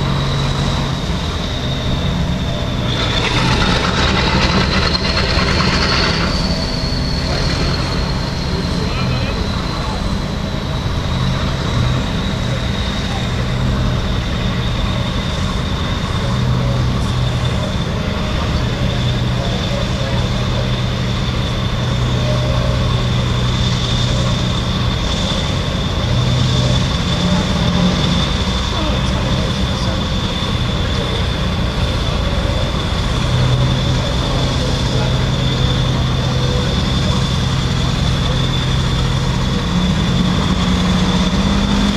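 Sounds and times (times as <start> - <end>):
boat diesel engines running: 0.0 - 41.9
thin high whine: 0.0 - 41.9.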